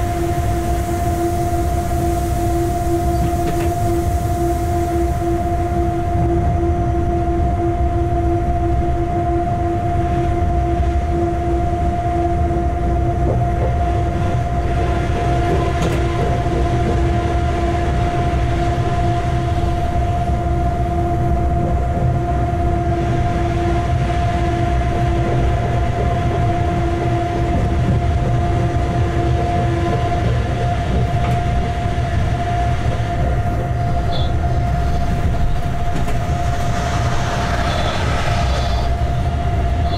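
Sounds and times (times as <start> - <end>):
constant humming tones: 0.0 - 39.9
locomotive rumble: 0.0 - 39.9.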